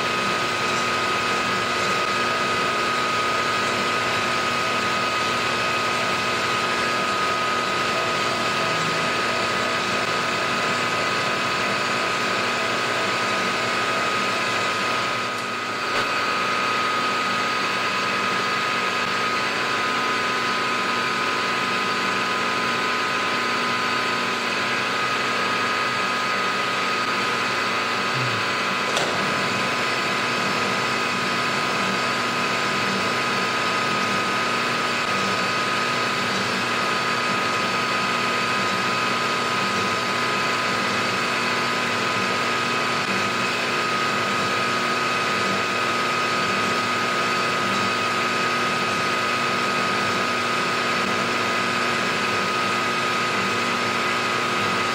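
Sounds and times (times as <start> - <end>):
milling machine spindle whine: 0.0 - 54.9.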